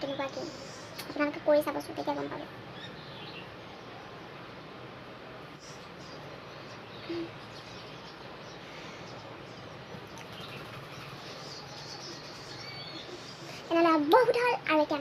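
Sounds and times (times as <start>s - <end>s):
faint birds chirping: 0.0s - 15.0s
steady background hiss: 0.0s - 15.0s.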